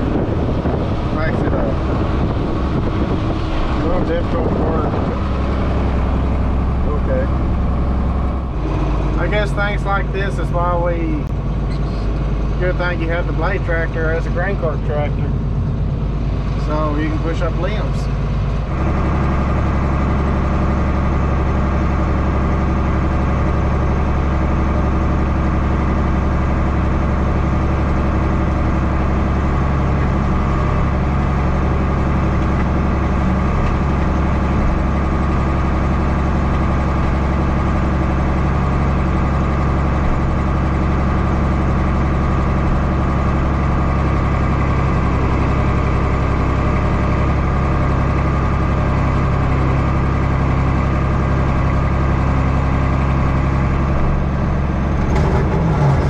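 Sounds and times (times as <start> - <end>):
large diesel engine running: 0.0 - 56.0.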